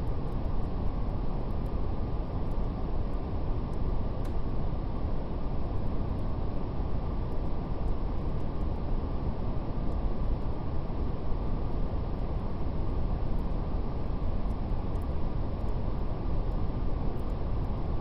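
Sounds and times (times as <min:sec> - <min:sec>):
deep brown noise rush: 0:00.0 - 0:18.0
faint fire crackles: 0:00.0 - 0:18.0.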